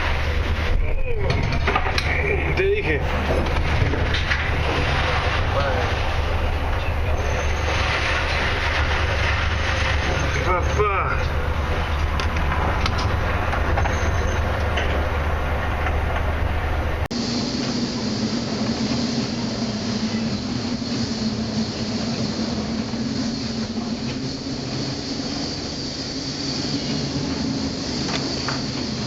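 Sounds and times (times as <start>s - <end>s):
loud steady rumbling: 0.0s - 29.0s
low hum: 0.0s - 29.0s.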